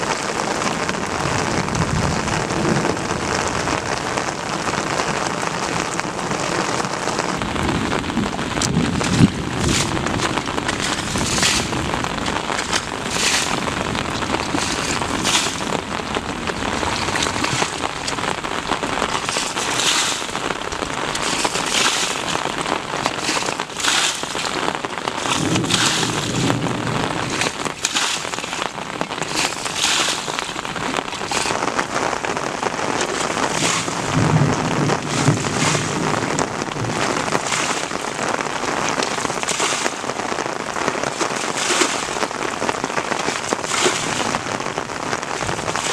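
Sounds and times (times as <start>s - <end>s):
water sloshing: 0.1s - 45.9s
bucket water splashing out: 7.8s - 45.9s.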